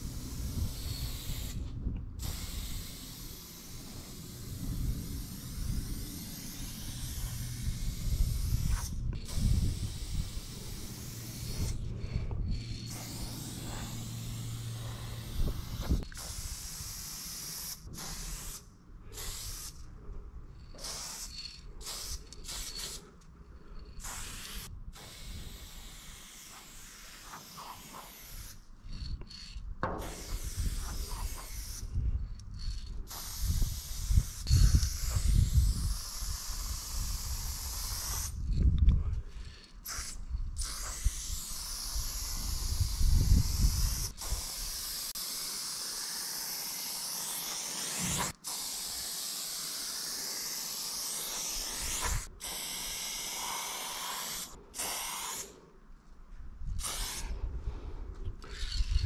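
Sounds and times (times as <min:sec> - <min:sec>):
spray-paint can hissing: 0:00.0 - 0:19.8, 0:20.8 - 0:23.1, 0:24.0 - 0:31.9, 0:32.6 - 0:38.5, 0:39.5 - 0:55.6, 0:56.8 - 0:57.3.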